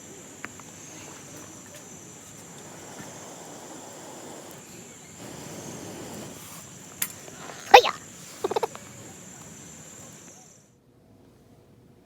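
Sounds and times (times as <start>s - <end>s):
crickets chirping: 0.0s - 10.8s.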